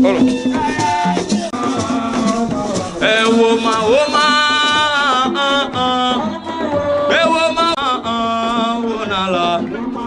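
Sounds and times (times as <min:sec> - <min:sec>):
music with singing voice: 0:00.0 - 0:10.0.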